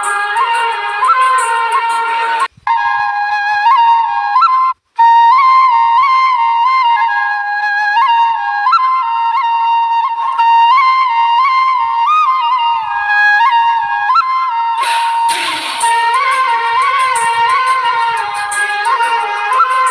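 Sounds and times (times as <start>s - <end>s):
flute melody: 0.0s - 19.9s.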